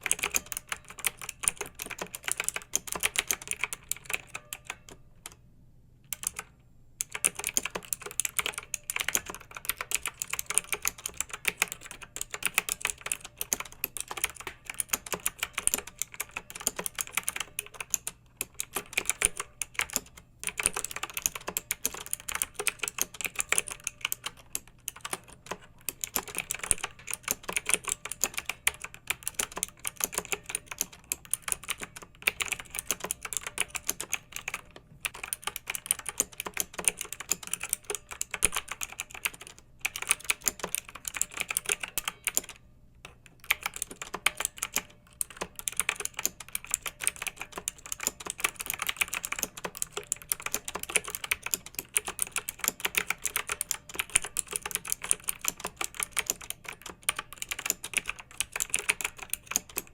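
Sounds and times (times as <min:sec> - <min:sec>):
mechanical keyboard typing: 0:00.0 - 0:05.4, 0:06.1 - 0:59.9.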